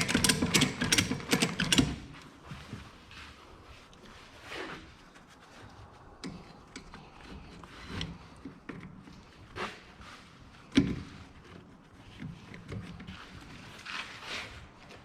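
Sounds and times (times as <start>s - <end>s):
handling clicks and rustles: 0.0s - 15.0s.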